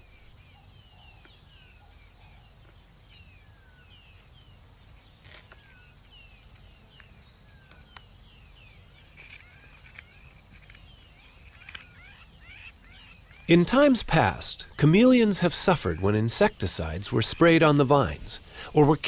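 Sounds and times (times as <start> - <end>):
low steady hiss: 0.0 - 19.0
small birds chirping: 0.0 - 19.0.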